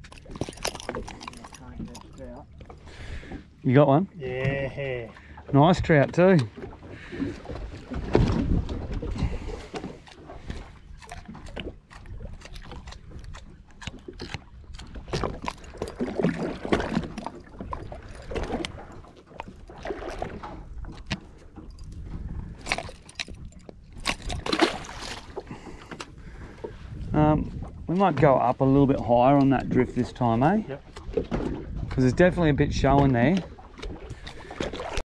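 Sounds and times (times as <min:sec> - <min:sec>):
water sloshing against hull: 0:00.0 - 0:35.0.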